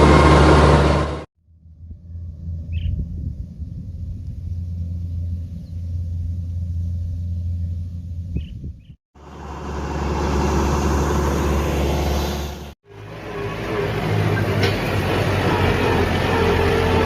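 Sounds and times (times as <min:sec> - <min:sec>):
harvester engine droning: 0:00.0 - 0:17.0.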